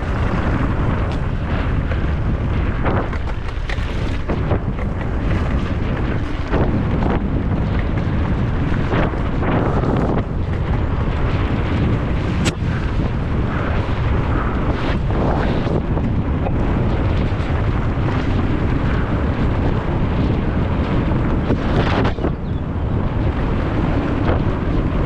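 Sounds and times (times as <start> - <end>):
bike rattling over rough ground: 0.0 - 25.0
wind rumble on microphone: 0.0 - 25.0.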